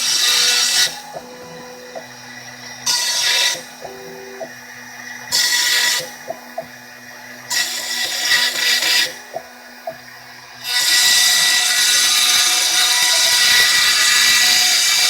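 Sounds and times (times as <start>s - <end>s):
cnc router cutting board: 0.0s - 15.0s
stepper motors whining: 0.0s - 15.0s.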